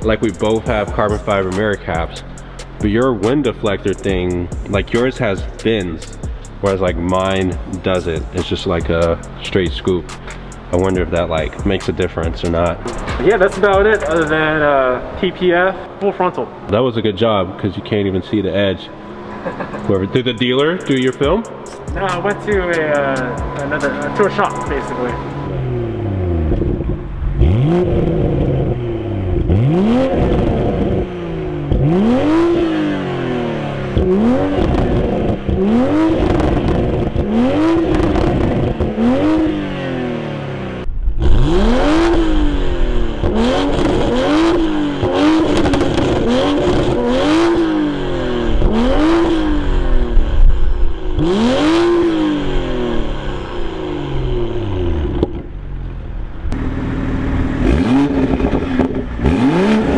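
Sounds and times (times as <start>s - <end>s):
car engine revving in blips: 0.0s - 59.9s.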